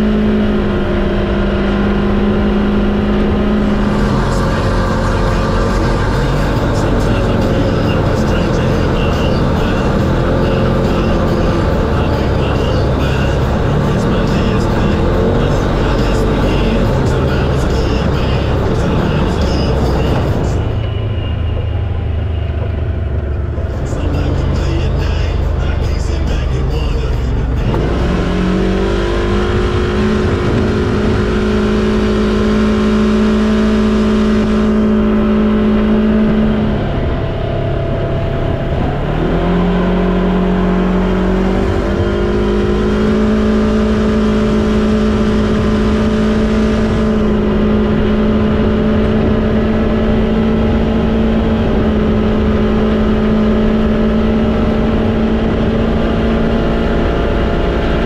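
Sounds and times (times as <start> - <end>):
vehicle engine running under load: 0.0 - 58.0.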